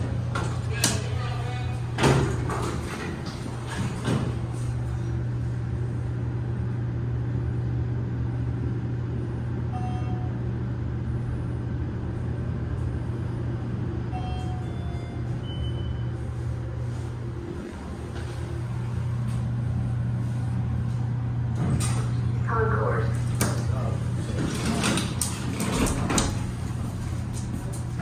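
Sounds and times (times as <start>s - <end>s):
elevator hum and rumble: 0.0s - 28.0s.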